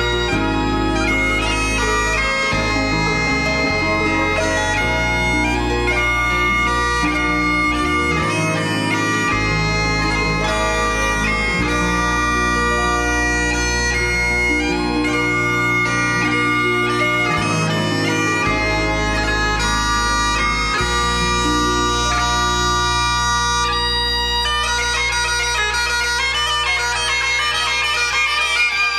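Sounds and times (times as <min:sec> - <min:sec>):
bagpipe melody with drone bass: 0:00.0 - 0:28.9.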